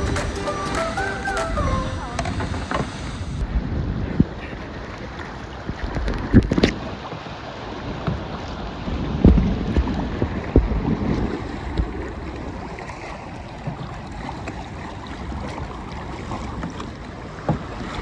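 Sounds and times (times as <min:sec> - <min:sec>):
short water splashes: 0:00.0 - 0:18.0
water lapping around kayak: 0:00.0 - 0:18.0
wind buffeting microphone: 0:00.0 - 0:18.0.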